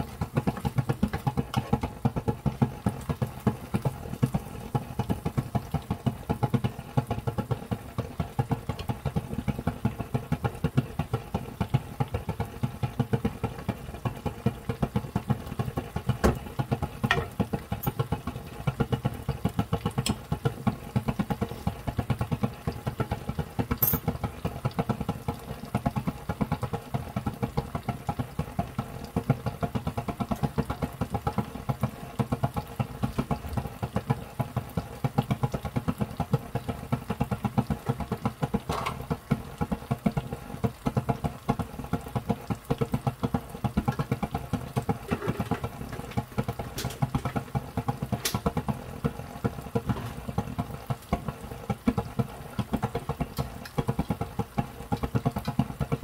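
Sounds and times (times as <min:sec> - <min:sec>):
sauce bubbling in a pan: 0:00.0 - 0:56.0.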